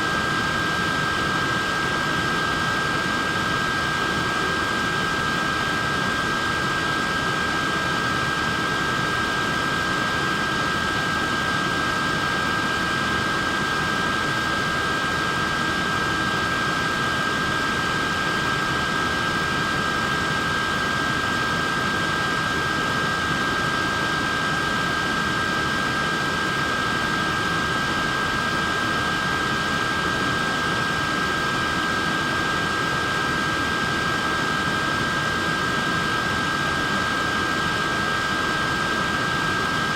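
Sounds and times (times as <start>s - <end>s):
high motor whine: 0.0s - 39.9s.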